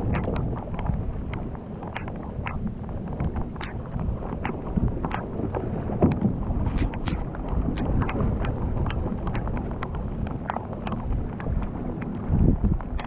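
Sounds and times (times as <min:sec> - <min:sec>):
water tapping on kayak: 0:00.0 - 0:13.0
wind buffeting microphone: 0:00.0 - 0:13.0.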